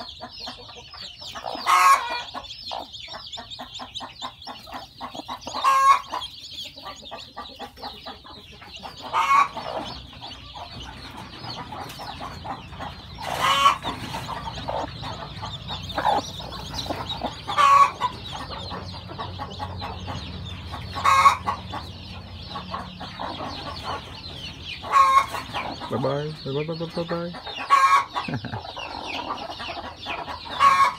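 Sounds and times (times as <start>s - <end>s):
chicken calling: 0.0s - 24.2s, 24.8s - 26.2s, 27.0s - 30.9s
chicks peeping: 0.0s - 30.9s.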